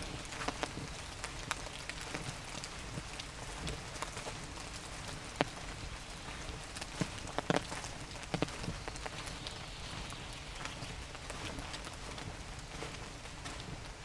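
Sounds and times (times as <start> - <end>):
light rain in a forest: 0.0 - 14.0
raindrops tapping: 0.0 - 14.0.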